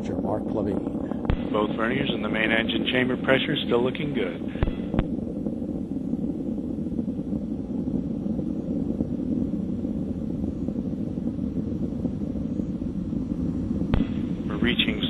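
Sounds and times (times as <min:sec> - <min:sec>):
rocket engine rumble: 0:00.0 - 0:15.0.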